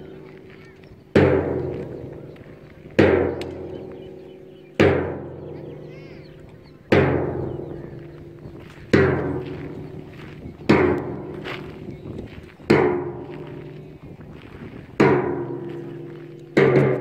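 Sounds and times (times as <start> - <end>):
large drum strokes ringing: 1.1 - 6.2, 6.9 - 11.9, 12.6 - 14.3, 14.9 - 17.0.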